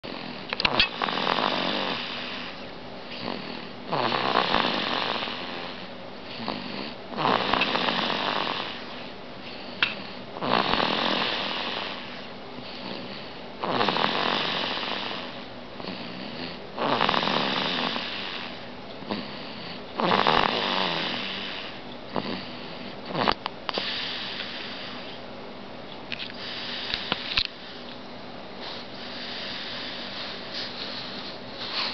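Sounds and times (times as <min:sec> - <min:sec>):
baby snoring: 0:00.0 - 0:09.1, 0:09.7 - 0:25.2, 0:28.6 - 0:31.9.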